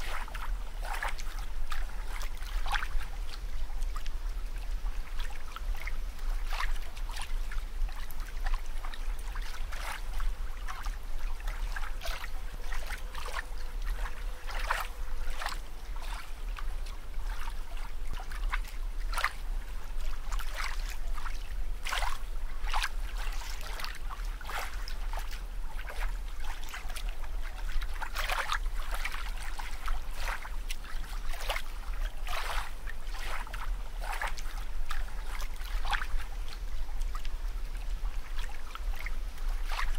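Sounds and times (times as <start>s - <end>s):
steady low hum: 0.0s - 39.9s
water bubbling and trickling: 0.0s - 39.9s.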